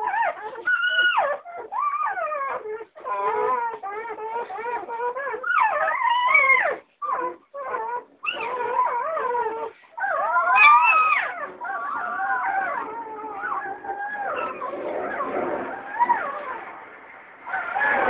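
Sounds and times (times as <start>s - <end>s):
puppies whining and howling: 0.0s - 16.7s, 17.4s - 18.0s.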